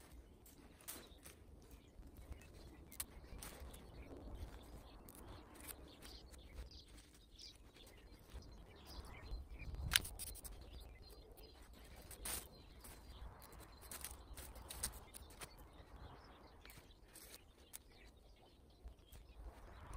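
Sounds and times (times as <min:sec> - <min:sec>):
crackles and clicks: 0:00.0 - 0:19.9
rustling of dry leaves and fabric: 0:00.0 - 0:19.9.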